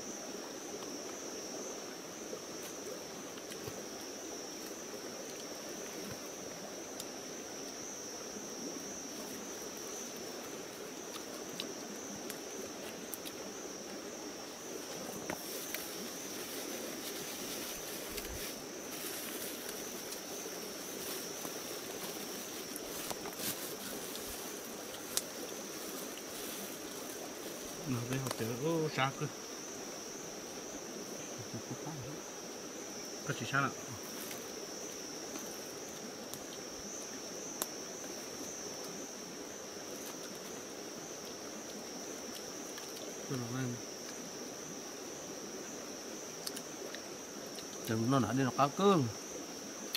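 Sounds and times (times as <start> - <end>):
high insect drone: 0.0 - 49.9
stream running: 0.0 - 49.9.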